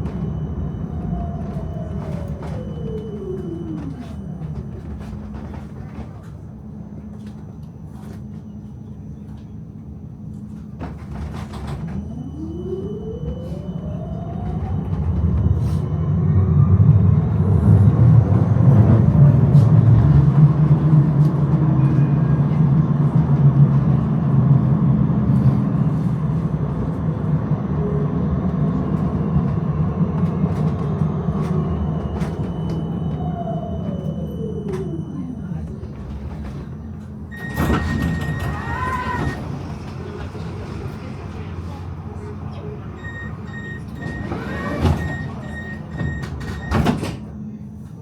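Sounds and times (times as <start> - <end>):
tram motors whining: 0.0 - 48.0
wheels rumbling on rails: 0.0 - 48.0.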